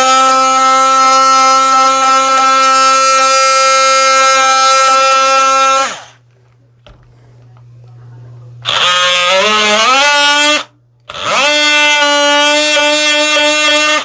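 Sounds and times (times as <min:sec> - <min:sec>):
oscillating multi-tool buzzing: 0:00.0 - 0:06.2, 0:08.6 - 0:14.0.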